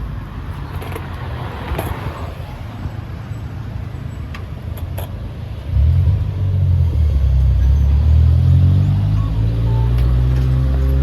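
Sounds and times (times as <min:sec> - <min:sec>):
passing motor vehicle rumble: 0:00.0 - 0:11.0.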